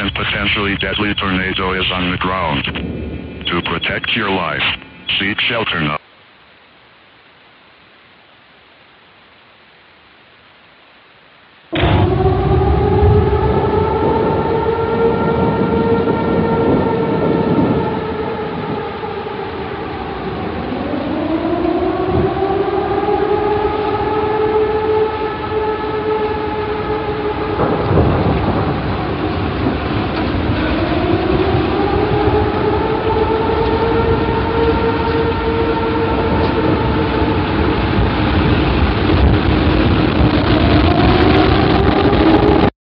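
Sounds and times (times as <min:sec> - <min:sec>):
heavy rumbling roar: 0:00.0 - 0:04.6, 0:11.7 - 0:42.7
tornado siren wailing: 0:00.0 - 0:05.9, 0:11.7 - 0:42.7.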